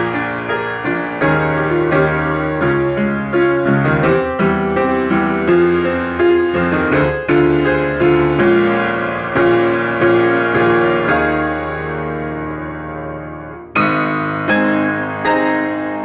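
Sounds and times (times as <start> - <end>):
solo piano chords: 0.0 - 16.0.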